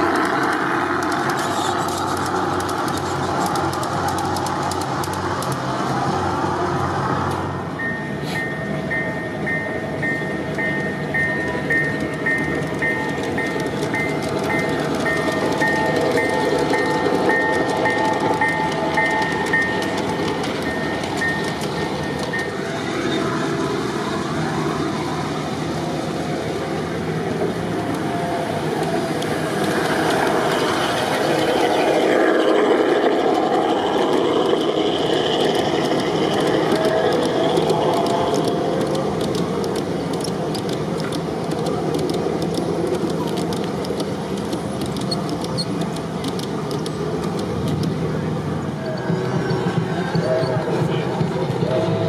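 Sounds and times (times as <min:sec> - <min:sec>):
wheels clicking over rail joints: 0:00.0 - 0:06.0, 0:08.9 - 0:22.9, 0:25.8 - 0:52.0
model train wheels rumbling on rail: 0:00.0 - 0:52.0.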